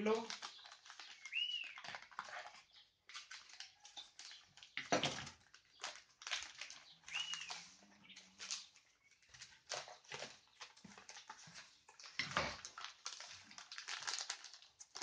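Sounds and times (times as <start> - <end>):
plastic crinkling and scraping: 0.0 - 15.0.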